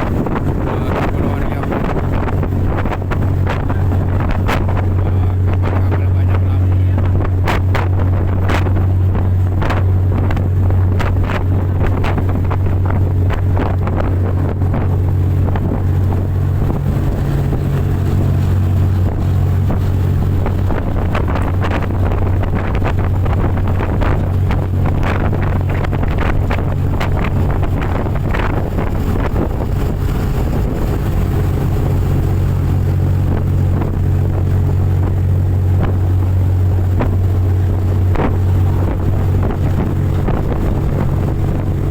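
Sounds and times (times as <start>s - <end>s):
motorboat engine drone: 0.0s - 41.9s
wind buffeting microphone: 0.0s - 41.9s.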